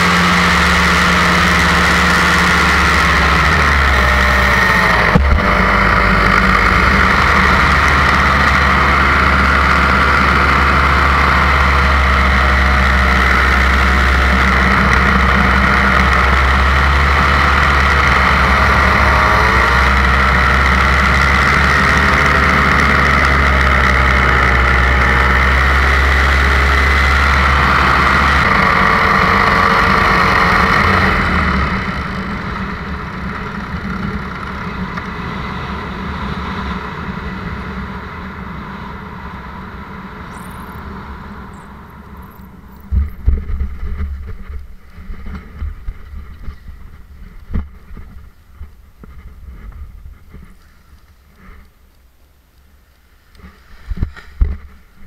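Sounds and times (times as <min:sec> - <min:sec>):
paramotor engine droning: 0:00.0 - 0:52.0.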